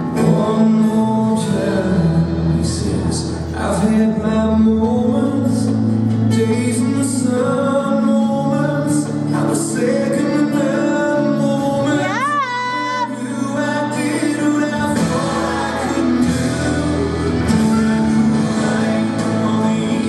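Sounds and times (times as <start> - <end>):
song with instrumental backing: 0.0 - 20.0.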